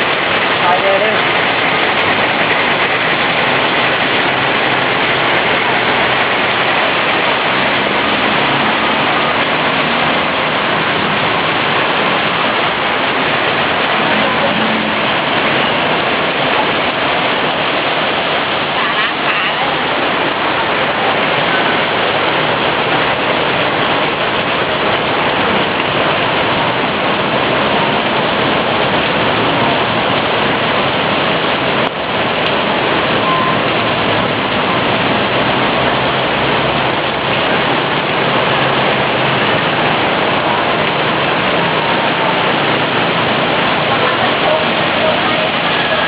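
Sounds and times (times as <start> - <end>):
rushing water hiss: 0.0 - 46.0.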